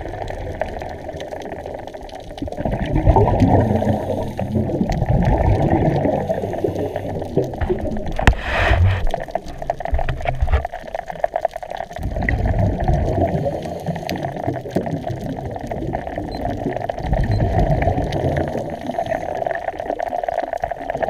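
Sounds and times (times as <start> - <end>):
water bubbling and gurgling: 0.0 - 21.0.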